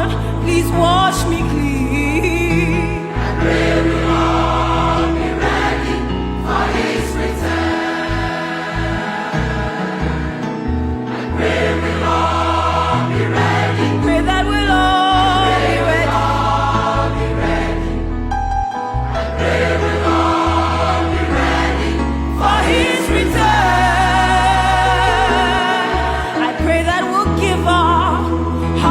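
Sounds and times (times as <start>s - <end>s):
choir singing gospel: 0.0s - 18.3s, 19.1s - 28.9s.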